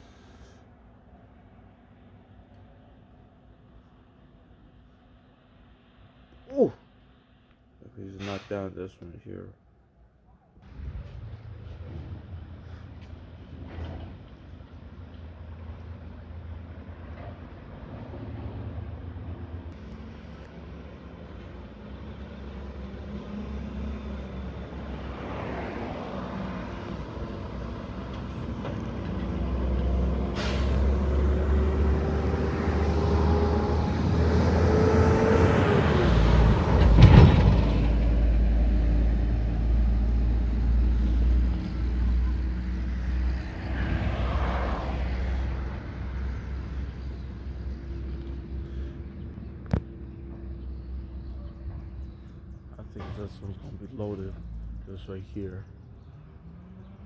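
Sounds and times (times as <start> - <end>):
truck engine and tyre rumble: 0.0 - 57.0
diesel trucks running: 10.6 - 57.0.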